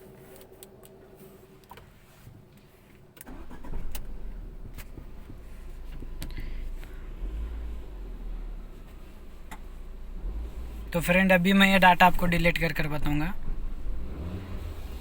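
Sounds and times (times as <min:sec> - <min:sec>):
car engine starting and idling: 0:02.7 - 0:15.0.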